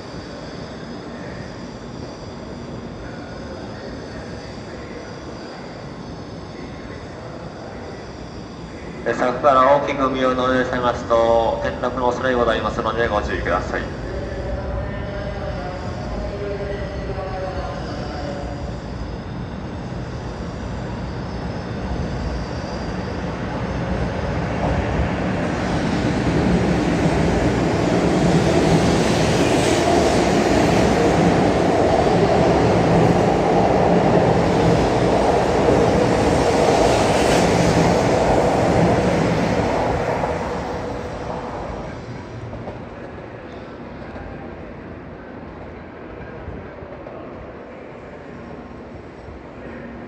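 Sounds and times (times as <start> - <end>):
train passing close by: 0.0 - 50.0.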